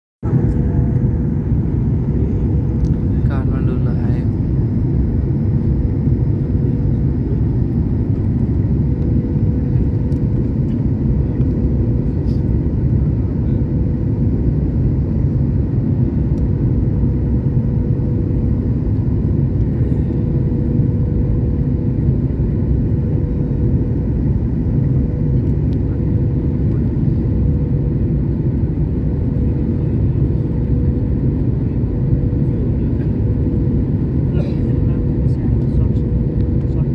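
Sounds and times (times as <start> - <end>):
airliner cabin rumble: 0.2 - 36.9.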